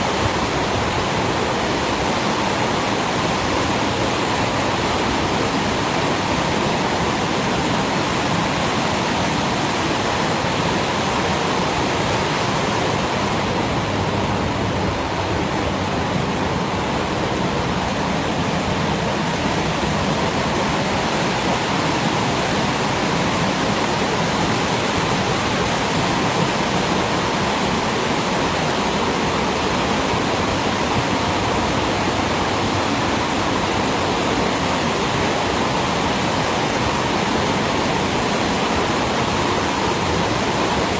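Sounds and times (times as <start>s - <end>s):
river rushing white water roar: 0.0s - 40.9s.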